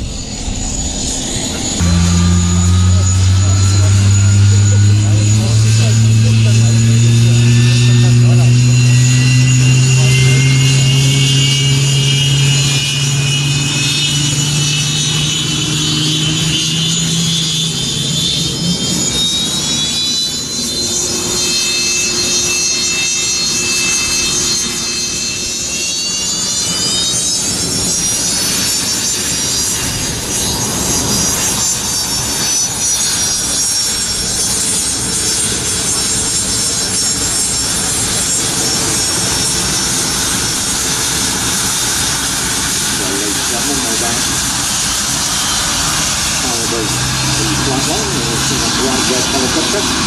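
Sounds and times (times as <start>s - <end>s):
jet engines whining: 0.0s - 50.0s
low hum: 0.0s - 50.0s.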